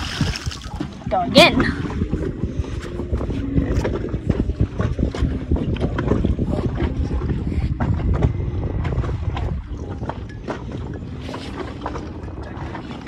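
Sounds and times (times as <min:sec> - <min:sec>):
water slapping against hull: 0:00.0 - 0:13.0
wind buffeting microphone: 0:00.0 - 0:13.0.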